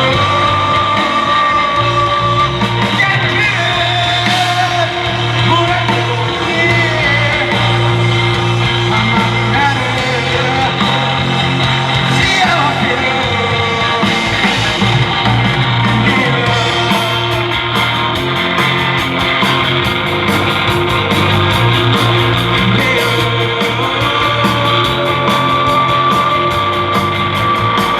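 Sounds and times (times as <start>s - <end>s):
bass: 0.0s - 27.9s
drums: 0.0s - 27.9s
electric guitar: 0.0s - 27.9s
singing voice: 0.0s - 27.9s.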